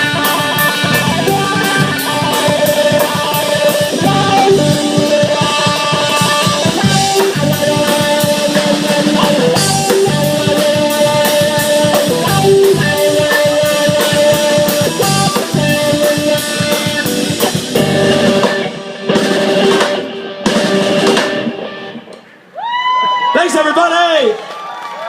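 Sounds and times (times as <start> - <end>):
bass guitar: 0.0 - 22.2
electric guitar lead: 0.0 - 22.5
drum kit: 0.0 - 23.3.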